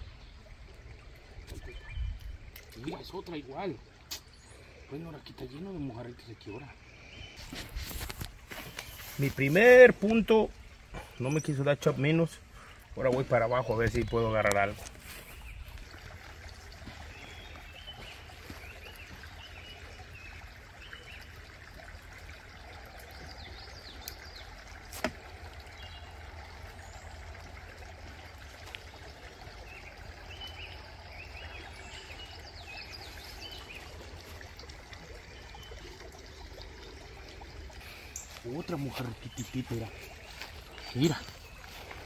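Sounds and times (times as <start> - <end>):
creek trickling: 0.0 - 42.0.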